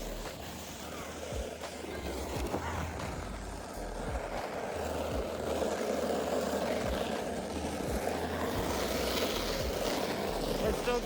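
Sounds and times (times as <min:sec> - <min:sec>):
sled scraping over snow: 0:00.0 - 0:11.0.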